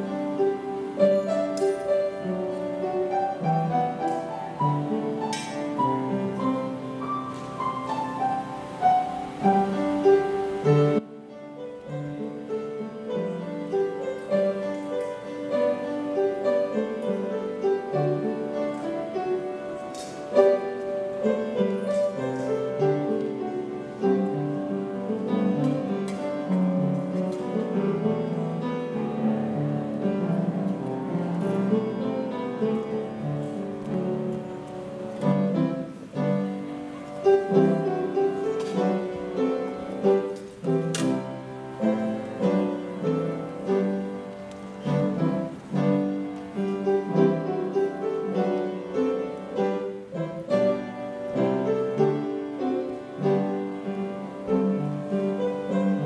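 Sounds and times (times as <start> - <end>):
slow piano music: 0.0 - 56.0.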